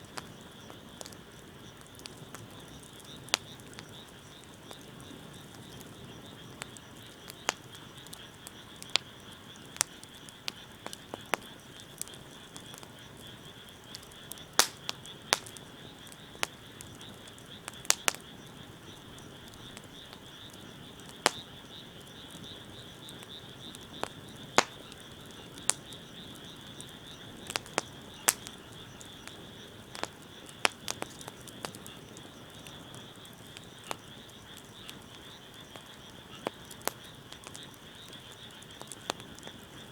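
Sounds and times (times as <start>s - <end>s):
wood fire crackling: 0.0s - 39.9s
high-pitched frog or insect chorus: 0.2s - 39.9s.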